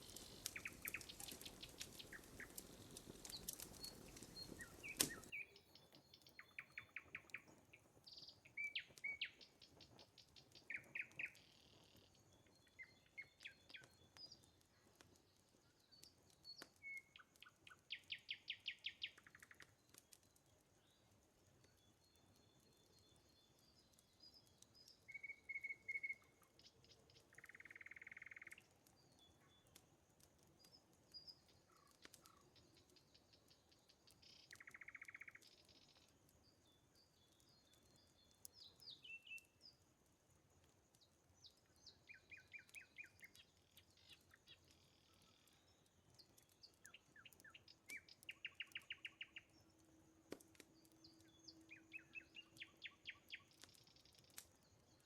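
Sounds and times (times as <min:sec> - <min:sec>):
faint sharp clicks: 0:00.0 - 0:06.4, 0:07.0 - 0:20.5, 0:23.7 - 0:36.4, 0:40.6 - 0:55.0.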